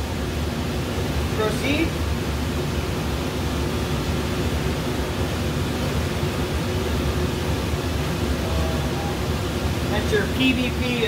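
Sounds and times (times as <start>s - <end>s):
blower fan rushing: 0.0s - 11.0s.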